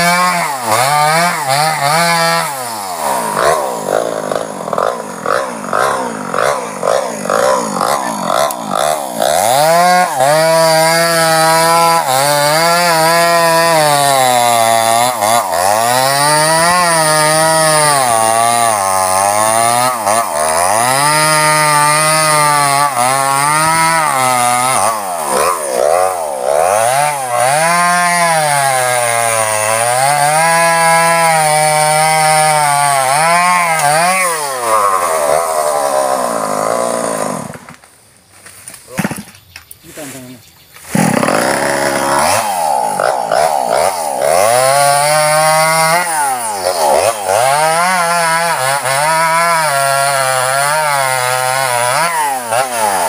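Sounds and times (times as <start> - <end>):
chainsaw cutting log: 0.0 - 37.9, 40.8 - 53.0.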